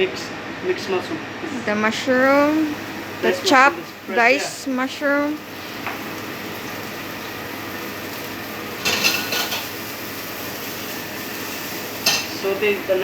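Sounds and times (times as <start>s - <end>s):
steady hiss: 2.6s - 13.0s.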